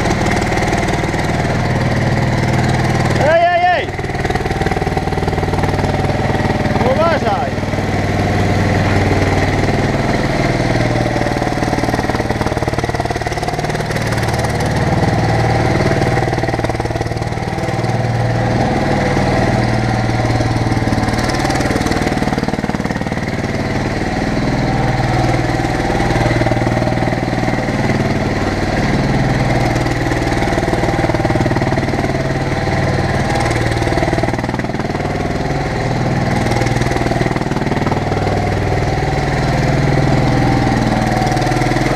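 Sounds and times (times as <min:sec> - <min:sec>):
skid steer engine running: 0:00.0 - 0:41.9.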